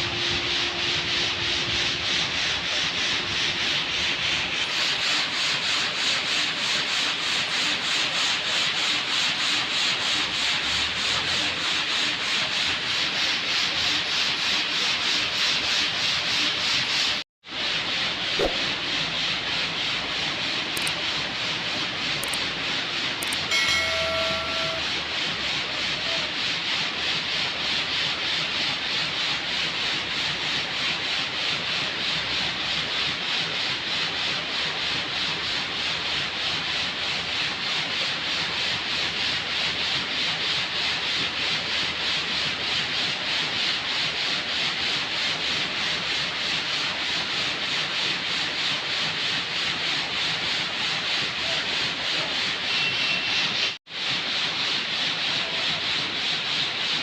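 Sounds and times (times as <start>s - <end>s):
pulsing rasping scrape: 0.0s - 57.0s.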